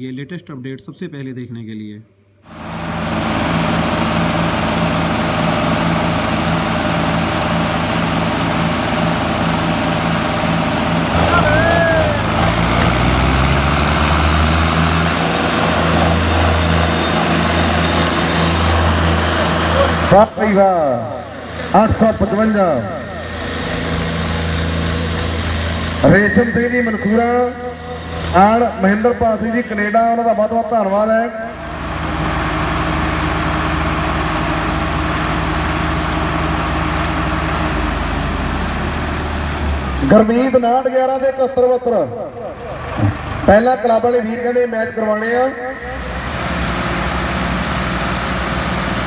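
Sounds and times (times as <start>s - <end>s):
diesel tractor engines droning: 2.4s - 49.0s.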